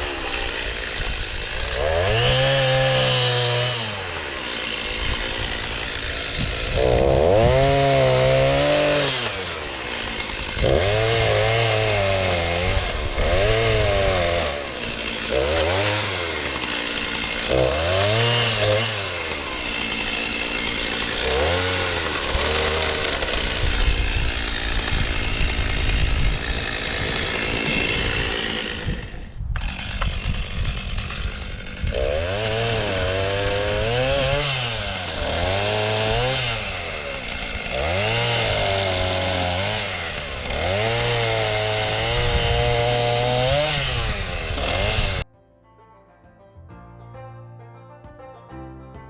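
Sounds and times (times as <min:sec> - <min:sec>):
chainsaw cutting log: 0:00.0 - 0:45.3.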